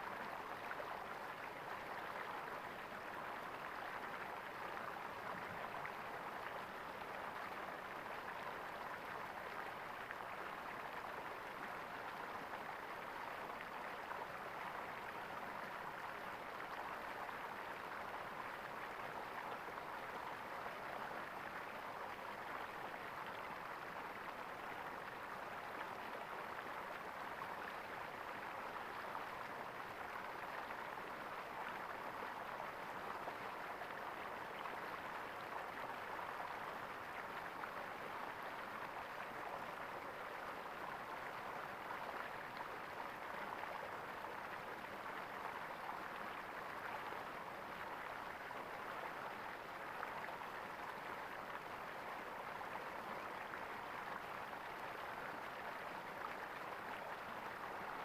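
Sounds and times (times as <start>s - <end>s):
flowing water gurgling: 0.0s - 58.0s.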